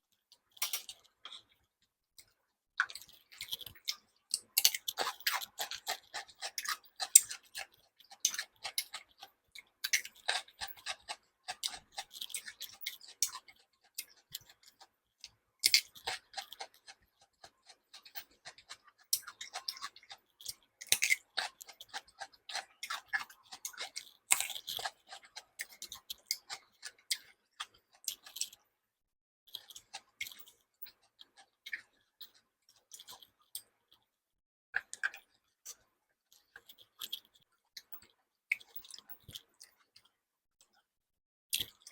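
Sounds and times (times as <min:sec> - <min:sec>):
person chewing: 0:02.8 - 0:14.9, 0:15.7 - 0:28.6, 0:29.5 - 0:33.8, 0:34.8 - 0:40.1.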